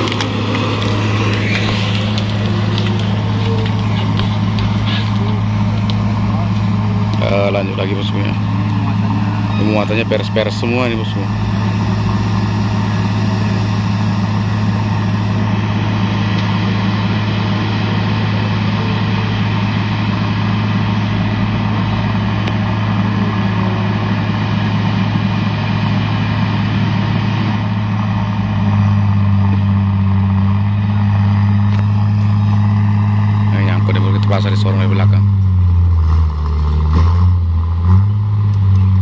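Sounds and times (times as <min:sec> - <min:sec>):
truck diesel engine running: 0:00.0 - 0:39.0.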